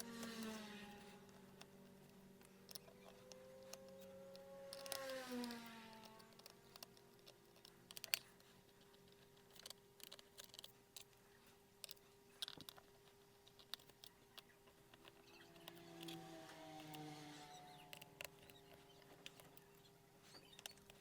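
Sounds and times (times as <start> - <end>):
screwdriver clicking on screws: 0.0 - 11.2, 13.4 - 17.2, 17.8 - 21.0
faint steady hum: 0.0 - 21.0.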